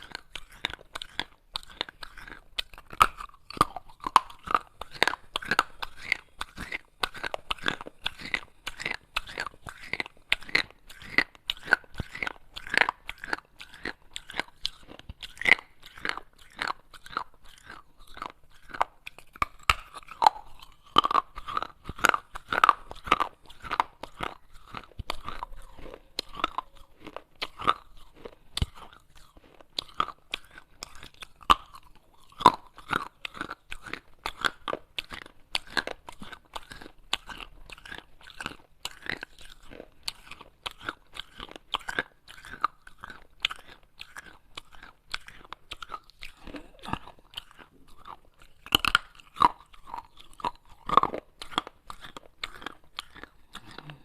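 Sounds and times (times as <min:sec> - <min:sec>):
person chewing crunchy clay: 0:00.0 - 0:54.0.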